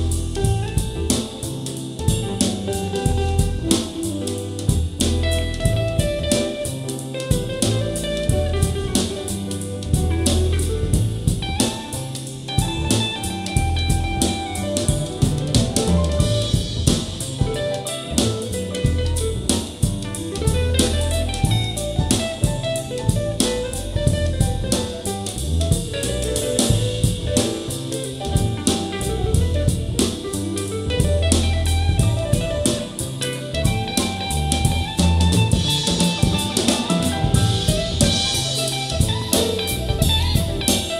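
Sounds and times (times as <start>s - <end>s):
drum kit: 0.0s - 40.9s
guitar: 0.0s - 40.9s.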